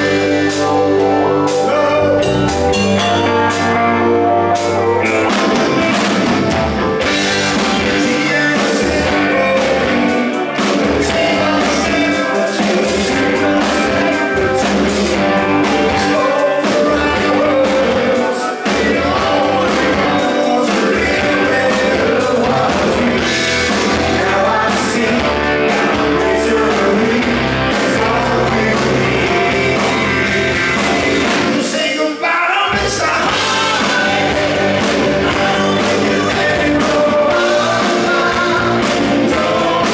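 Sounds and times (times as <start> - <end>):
lead vocals singing: 0.0 - 3.2, 5.0 - 39.9
electric bass: 0.0 - 31.8, 32.7 - 39.9
drum kit: 0.0 - 39.9
electric guitars: 0.0 - 39.9
backing vocals: 5.0 - 39.9.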